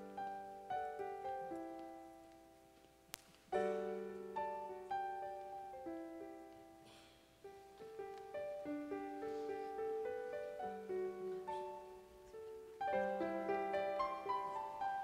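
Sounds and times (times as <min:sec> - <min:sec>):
piano playing soft chords: 0:00.0 - 0:15.0.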